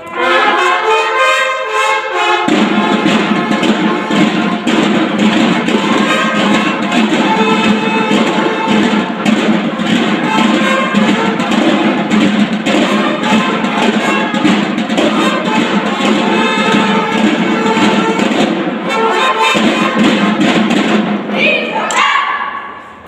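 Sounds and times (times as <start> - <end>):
snare drums drumming: 0.0 - 21.6
bugles playing: 0.0 - 22.8.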